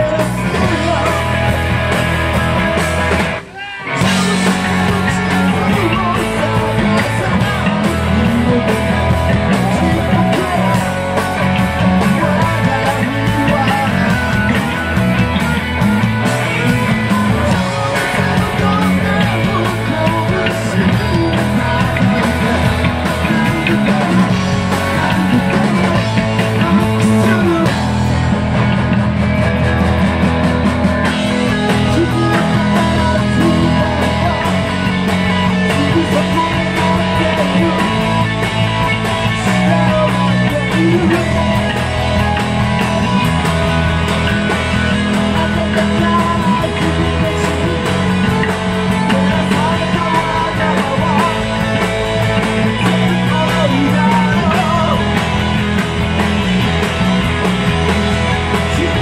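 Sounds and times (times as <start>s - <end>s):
man singing and shouting: 0.0s - 28.8s, 31.0s - 59.0s
bass guitar: 0.0s - 59.0s
distorted electric guitar: 0.0s - 59.0s
drum kit: 0.0s - 59.0s.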